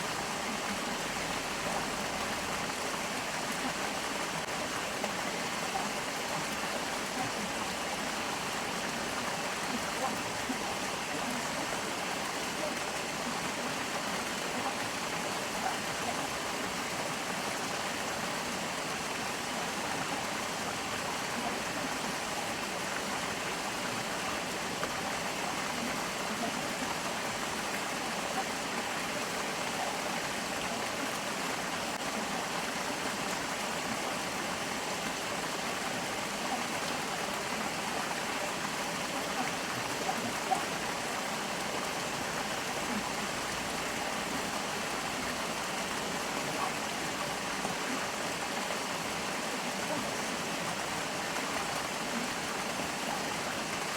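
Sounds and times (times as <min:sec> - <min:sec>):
stream flowing over rocks: 0:00.0 - 0:53.9.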